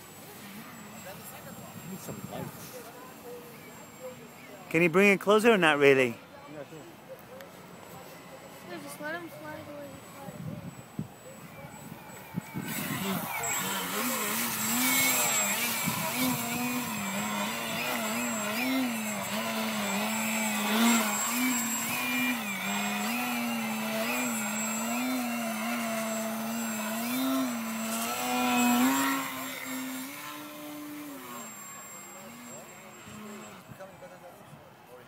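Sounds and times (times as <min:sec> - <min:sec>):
model plane electric motor whine: 0:00.0 - 0:04.6, 0:08.6 - 0:34.2.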